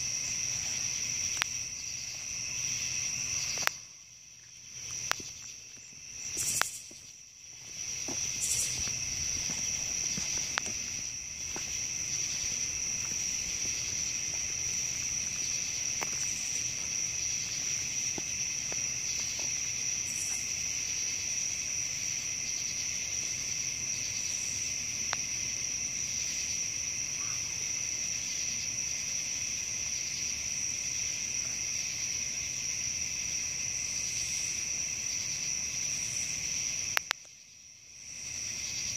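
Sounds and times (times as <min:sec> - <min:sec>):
night insects trilling: 0:00.0 - 0:38.9.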